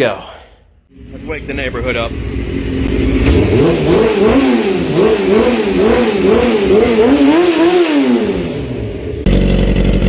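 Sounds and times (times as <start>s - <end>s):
motorcycle engine revving: 0.9s - 10.0s.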